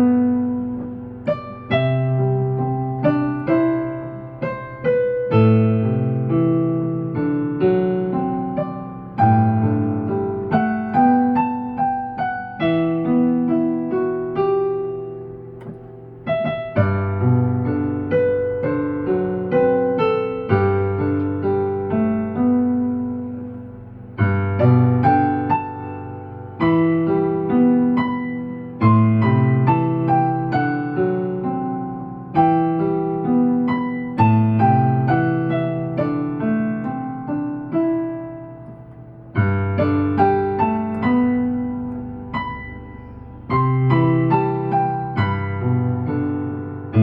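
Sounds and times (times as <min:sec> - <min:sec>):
solo piano ballad: 0:00.0 - 0:47.0.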